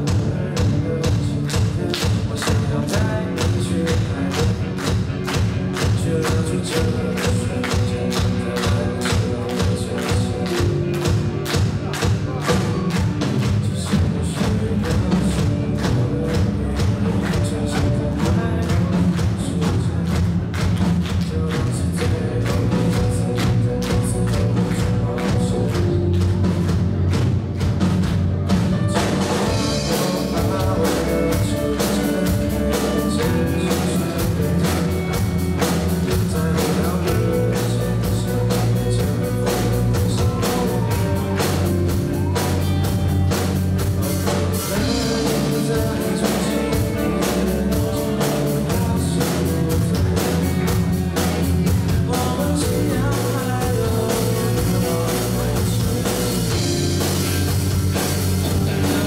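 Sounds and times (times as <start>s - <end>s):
drum kit beating: 0.0s - 59.0s
rock band playing: 0.0s - 59.0s.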